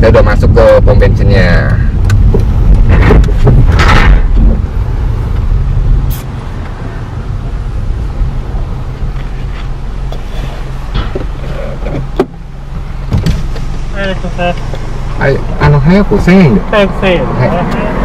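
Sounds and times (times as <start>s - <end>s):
car engine idling hum: 0.0s - 18.0s
car engine rumble: 0.0s - 18.0s.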